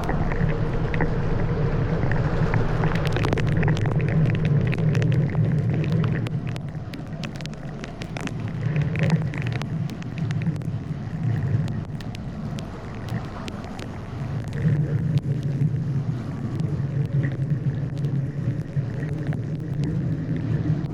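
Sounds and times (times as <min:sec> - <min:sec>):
low rumble of travel noise: 0:00.0 - 0:20.9
rain ticking on camera: 0:00.0 - 0:20.9.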